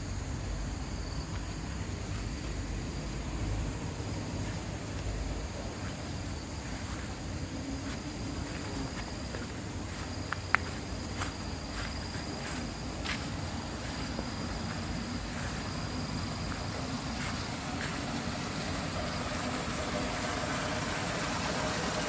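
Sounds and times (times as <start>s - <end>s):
insects calling high tone: 0.0s - 22.0s.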